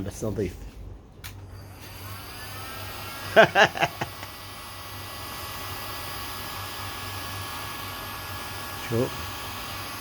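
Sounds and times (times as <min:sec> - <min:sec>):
electric motor whining: 0:01.4 - 0:10.0.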